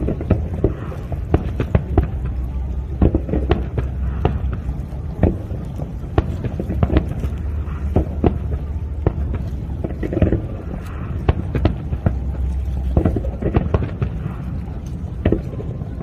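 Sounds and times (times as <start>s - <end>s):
fireworks bangs: 0.0s - 16.0s
low rumble: 0.0s - 16.0s.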